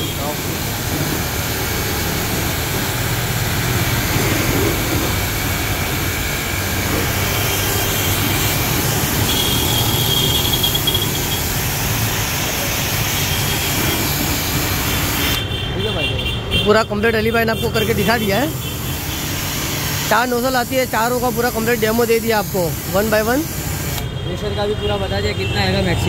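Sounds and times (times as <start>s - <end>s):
pressure washer spraying: 0.0s - 15.5s, 17.6s - 24.1s.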